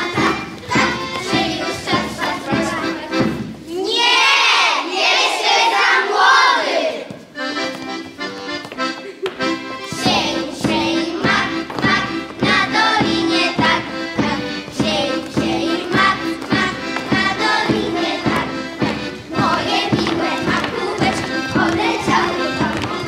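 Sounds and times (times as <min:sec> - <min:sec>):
accordion playing folk dance tune: 0:00.0 - 0:03.7, 0:07.2 - 0:23.0
children singing: 0:00.0 - 0:07.1, 0:09.8 - 0:23.0.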